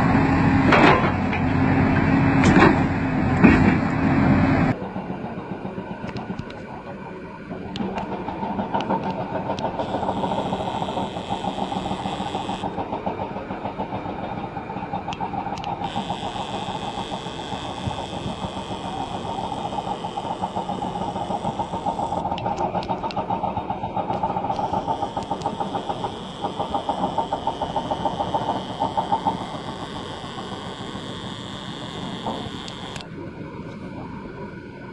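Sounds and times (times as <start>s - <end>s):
heavy diesel engine running: 0.0s - 34.6s.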